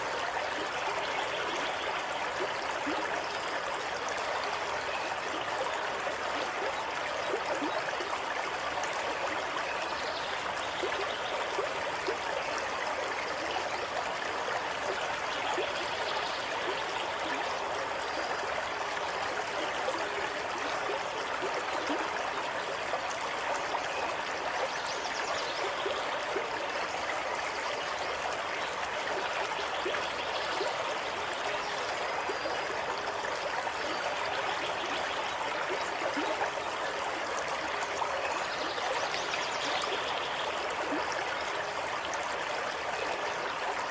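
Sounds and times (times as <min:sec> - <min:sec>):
stream water running: 0:00.0 - 0:43.9.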